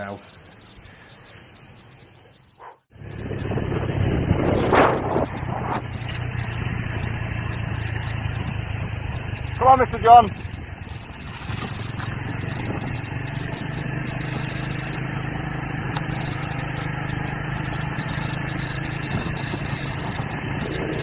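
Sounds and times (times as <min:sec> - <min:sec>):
motorbike engine cruising: 0:02.6 - 0:21.0
wind and road noise: 0:02.6 - 0:21.0.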